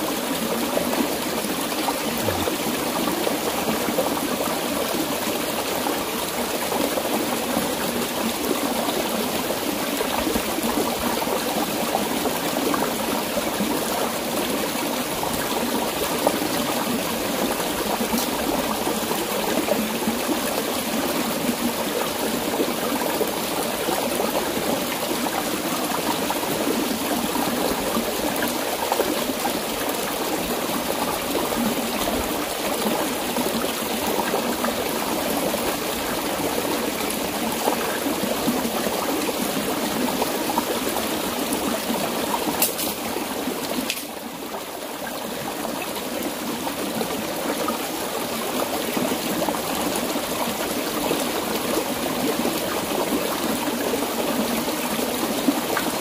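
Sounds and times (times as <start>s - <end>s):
stream running over stones: 0.0s - 56.0s.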